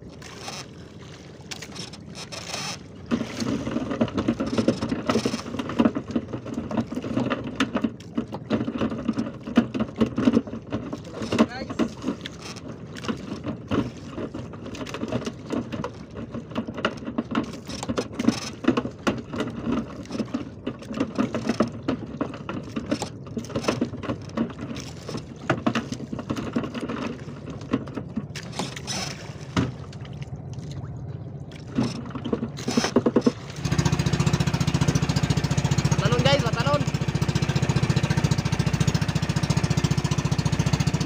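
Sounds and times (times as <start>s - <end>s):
knocks and clatter from boat: 0.0s - 41.0s
water splashing against boat hull: 0.0s - 41.0s.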